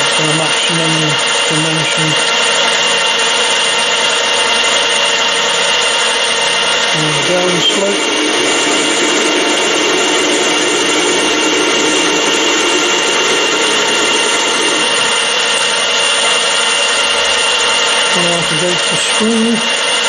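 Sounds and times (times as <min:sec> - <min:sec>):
metal lathe cutting: 0:00.0 - 0:20.0.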